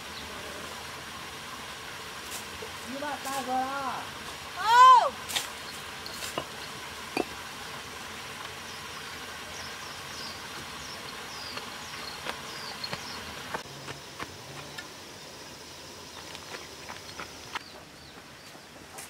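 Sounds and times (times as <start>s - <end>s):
insects humming: 0.0s - 19.0s.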